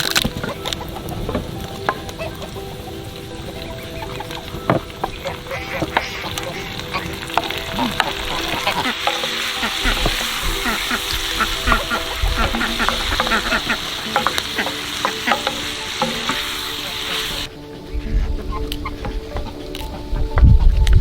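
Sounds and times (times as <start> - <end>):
food sizzling in a pan: 0.0 - 17.5.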